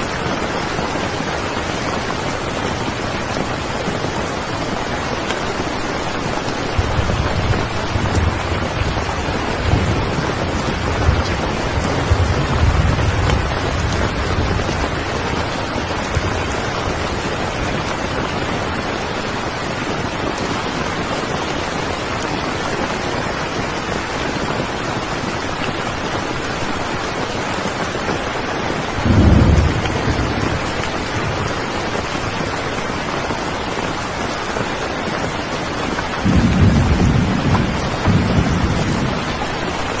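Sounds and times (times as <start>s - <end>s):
thunder rumbling: 0.0s - 28.2s, 28.8s - 34.6s, 35.2s - 40.0s
heavy rain: 0.0s - 40.0s.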